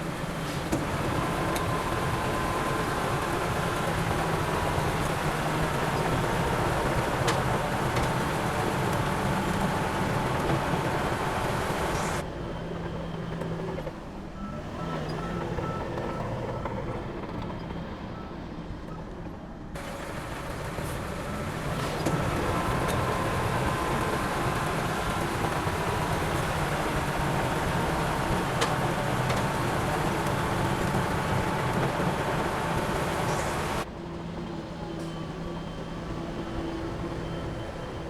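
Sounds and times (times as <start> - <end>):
diesel machinery engine drone: 0.0 - 38.0.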